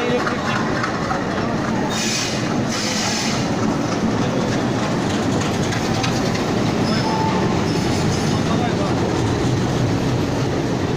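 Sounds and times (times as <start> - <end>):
diesel locomotive engines running: 0.0 - 10.9
train wheels rolling on rails: 0.0 - 10.9.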